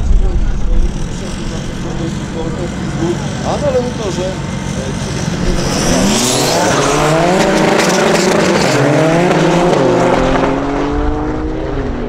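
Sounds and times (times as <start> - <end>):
cars accelerating hard: 0.0 - 12.0.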